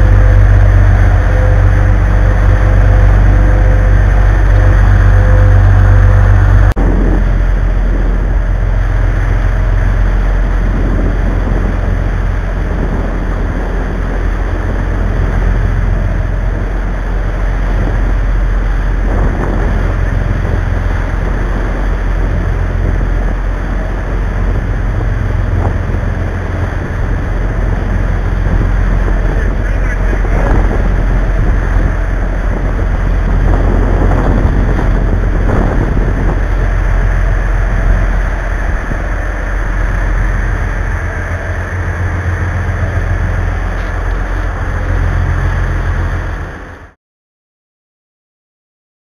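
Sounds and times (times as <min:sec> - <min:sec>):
boat engines rumbling: 0:00.0 - 0:47.0
wind on microphone: 0:00.0 - 0:47.0.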